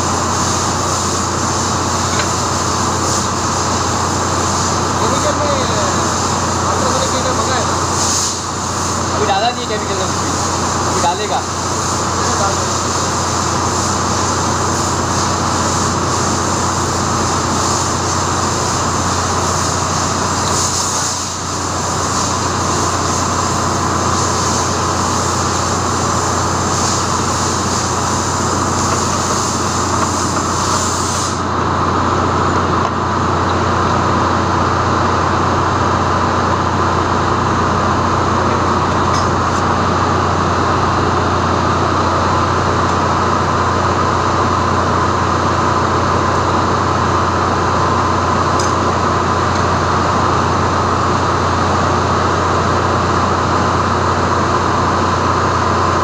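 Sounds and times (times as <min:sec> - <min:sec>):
engine-room machinery drone: 0:00.0 - 0:56.0.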